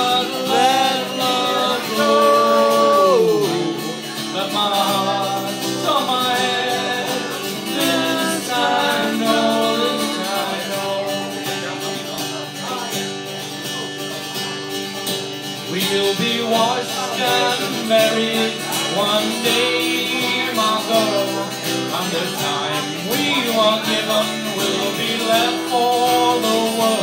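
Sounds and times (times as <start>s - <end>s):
man singing: 0.0s - 13.0s, 15.6s - 27.0s
acoustic guitar: 0.0s - 27.0s.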